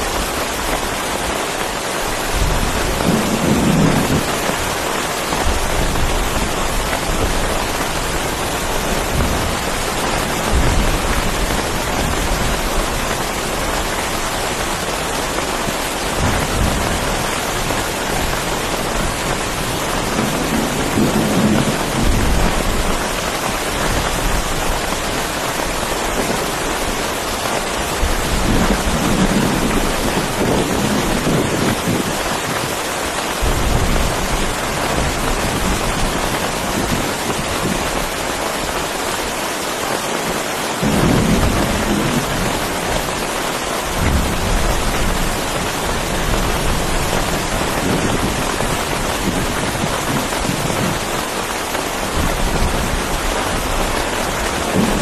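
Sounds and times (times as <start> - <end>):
heavy rain falling: 0.0 - 55.0
thunder rumbling: 2.1 - 39.0, 40.8 - 55.0.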